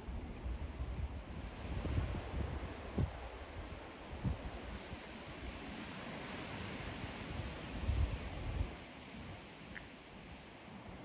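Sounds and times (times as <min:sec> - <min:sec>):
wind rumble on microphone: 0:00.0 - 0:11.0
wind rushing through trees: 0:00.0 - 0:11.0.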